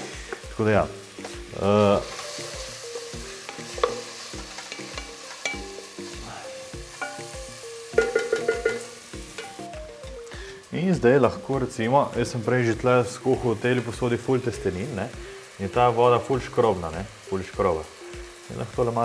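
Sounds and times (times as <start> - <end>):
background music with beat: 0.0 - 19.0
vegetables sizzling in oil: 0.0 - 19.0.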